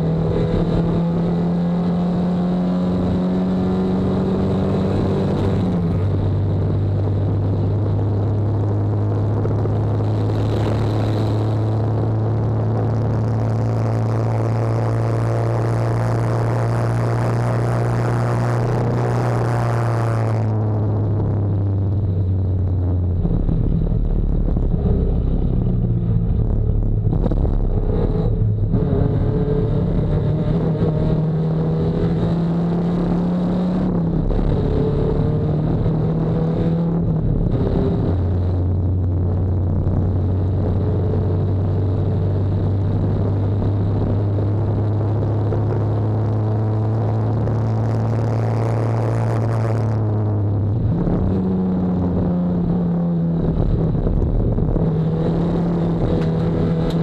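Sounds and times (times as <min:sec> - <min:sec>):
race car engine revving: 0:00.0 - 0:08.4, 0:09.1 - 0:22.3, 0:23.2 - 0:57.0.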